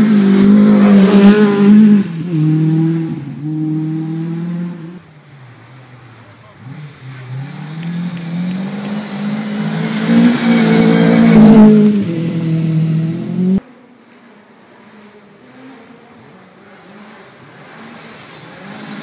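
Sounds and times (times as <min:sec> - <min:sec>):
gravel and tyre noise: 0:00.0 - 0:19.0
rally car engine passing: 0:00.0 - 0:19.0.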